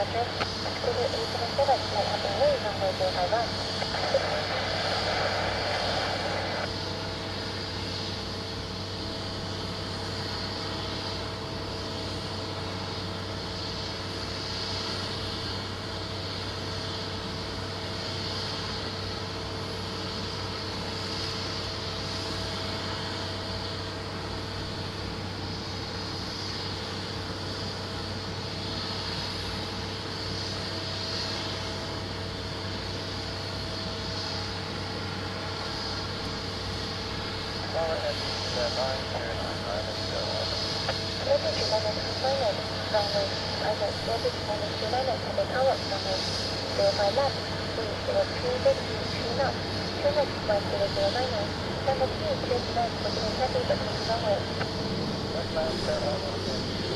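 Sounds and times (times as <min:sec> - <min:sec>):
jet aircraft drone: 0:00.0 - 0:56.9.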